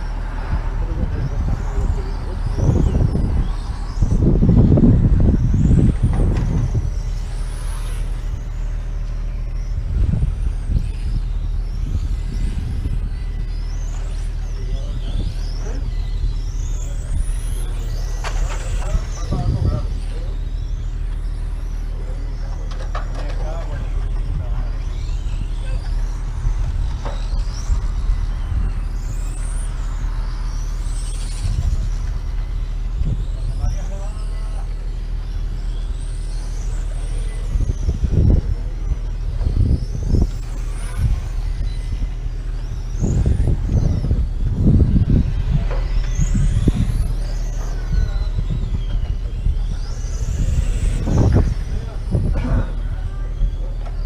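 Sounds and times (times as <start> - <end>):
racing motorcycles revving: 0.0 - 53.0
steady low rumble: 0.0 - 54.0.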